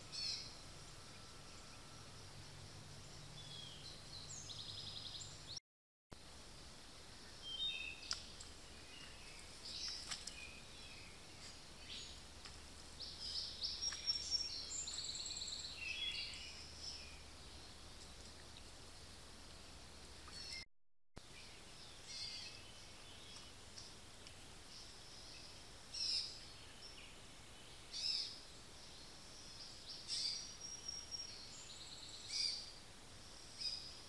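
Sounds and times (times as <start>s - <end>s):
songbirds singing and calling: 0.0s - 5.6s, 7.0s - 20.6s, 21.2s - 34.0s.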